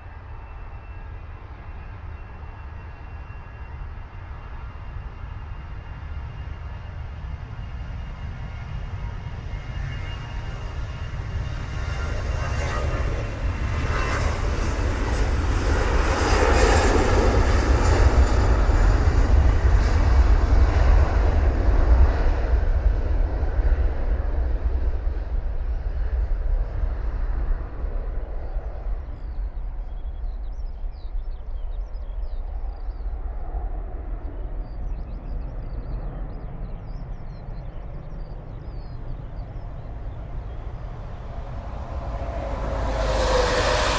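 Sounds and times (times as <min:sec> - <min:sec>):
jet airliner passing by: 0:00.0 - 0:31.3, 0:32.7 - 0:43.9.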